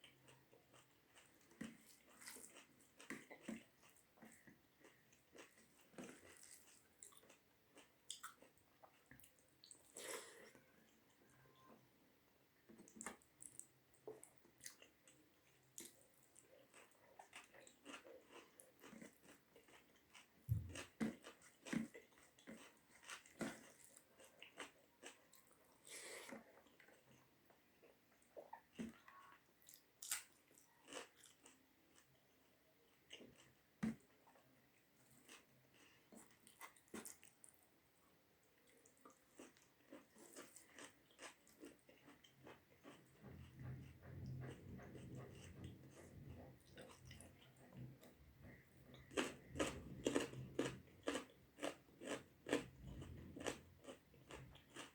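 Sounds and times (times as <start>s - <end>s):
wet chewing mouth sounds: 0.0s - 11.0s, 12.7s - 32.2s, 38.6s - 54.9s.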